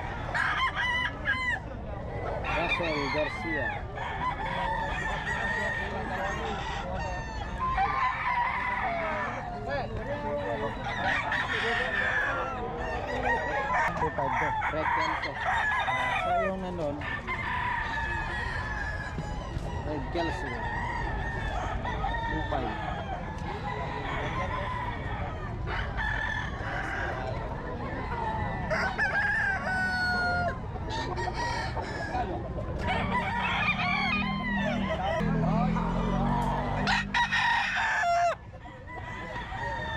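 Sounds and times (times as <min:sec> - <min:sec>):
roosters clucking: 0:00.0 - 0:39.9
roosters crowing: 0:00.0 - 0:39.9.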